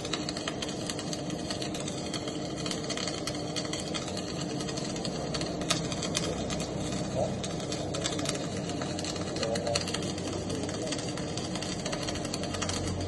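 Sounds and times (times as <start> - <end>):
machine hum: 0.0 - 13.0
welding arc crackling: 0.0 - 13.0.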